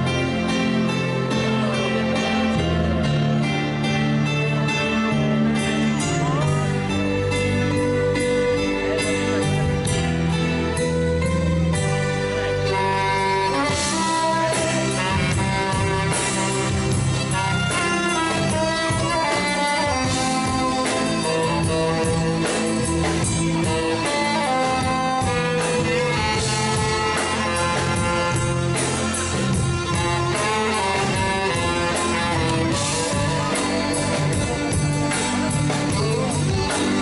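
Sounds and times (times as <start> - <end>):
live band playing: 0.0 - 37.0.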